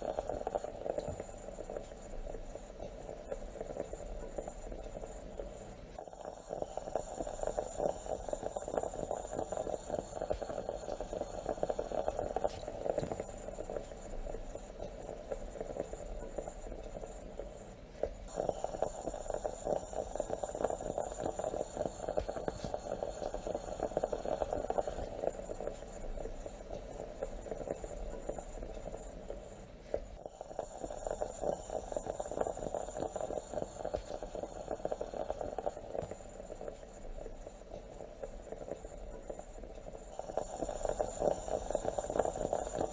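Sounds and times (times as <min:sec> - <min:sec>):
moka pot bubbling and sputtering: 0:00.0 - 0:42.9.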